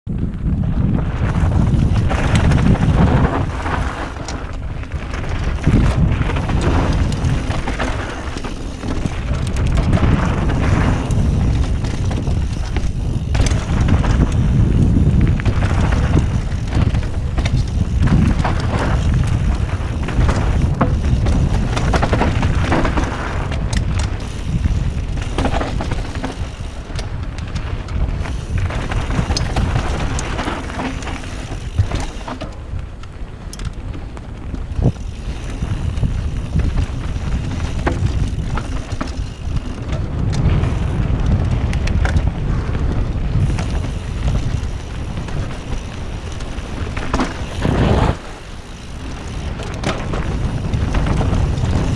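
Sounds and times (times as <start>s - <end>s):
wind rumble on microphone: 0.0s - 51.9s
bike knocking and rattling: 0.1s - 51.9s
bike tyres rolling on gravel: 0.1s - 51.9s.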